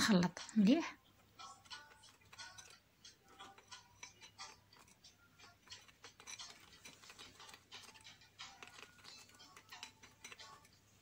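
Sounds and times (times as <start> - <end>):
metal spoon scraping a bowl: 1.4 - 11.0.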